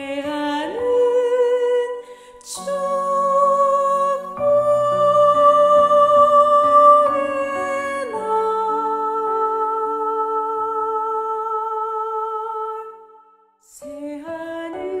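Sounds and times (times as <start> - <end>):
slow worship song: 0.0 - 15.0.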